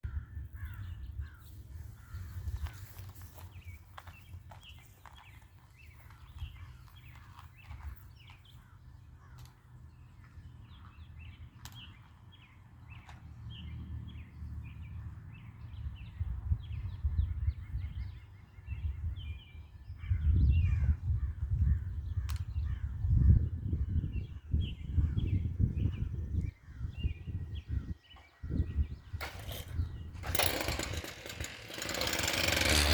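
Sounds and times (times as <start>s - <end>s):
small birds chirping: 0.1s - 32.7s.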